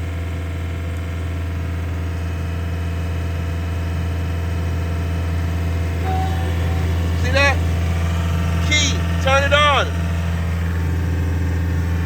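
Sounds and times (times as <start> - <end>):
skid steer engine droning: 0.0 - 12.0.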